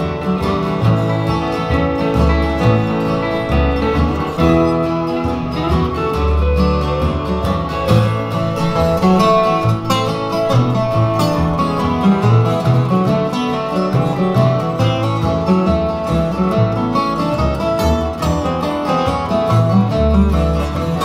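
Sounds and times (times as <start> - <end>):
electric guitar: 0.0 - 21.0
strummed acoustic guitars: 0.0 - 21.0
upright bass plucking: 0.0 - 21.0.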